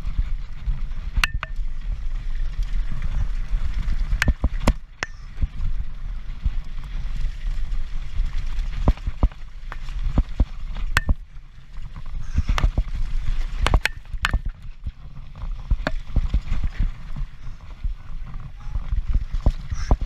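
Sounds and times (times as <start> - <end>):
wind and tyre rumble: 0.0 - 20.0
bike knocks and rattles: 0.1 - 20.0.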